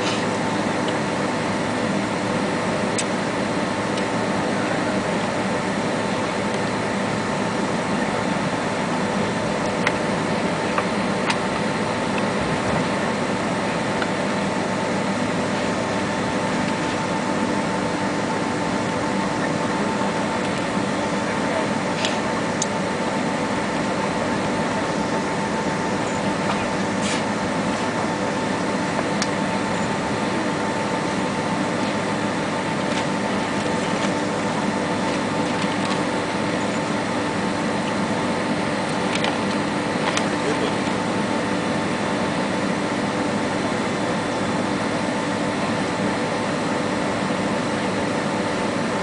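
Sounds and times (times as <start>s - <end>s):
air-conditioning hiss: 0.0s - 49.0s
jet engines idling: 0.0s - 49.0s.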